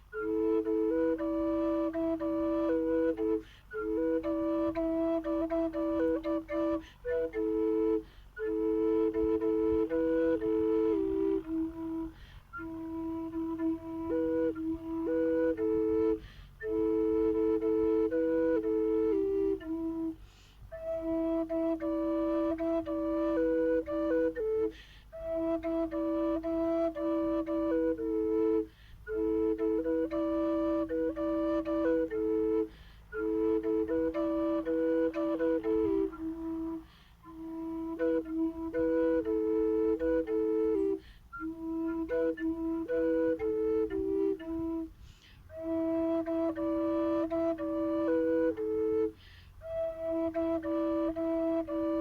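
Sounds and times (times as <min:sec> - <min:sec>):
drone flute melody: 0:00.0 - 0:52.0.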